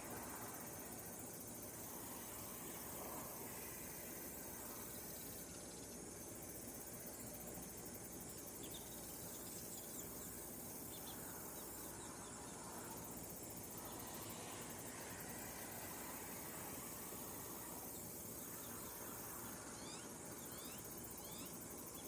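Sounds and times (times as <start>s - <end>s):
insects trilling: 0.0s - 22.0s
low background hum: 0.0s - 22.0s.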